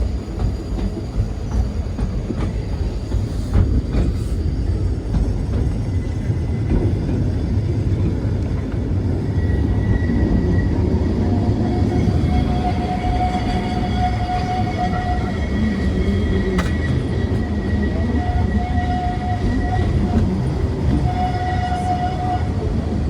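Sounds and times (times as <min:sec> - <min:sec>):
tramcar rumbling on rails: 0:00.0 - 0:23.0.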